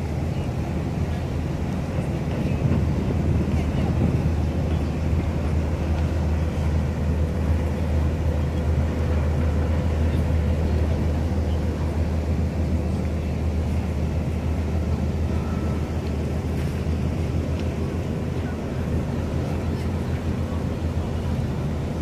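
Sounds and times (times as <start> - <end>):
harbour ambience rumble: 0.0 - 22.0.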